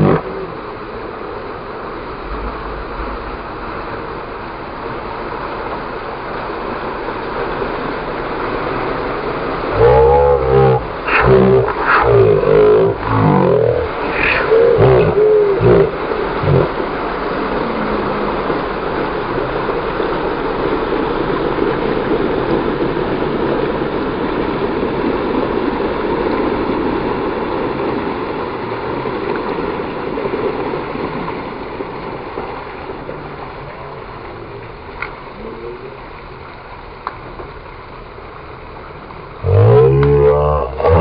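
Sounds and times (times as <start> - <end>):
stream rushing: 0.0 - 41.0
water churning around tyres: 0.0 - 41.0.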